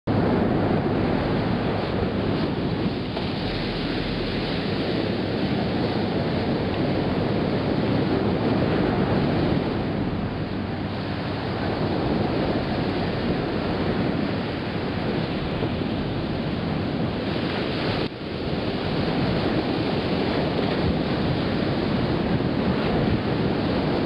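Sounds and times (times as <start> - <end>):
ocean surf washing onto beach: 0.1 - 24.0
wind buffeting microphone: 0.1 - 24.0.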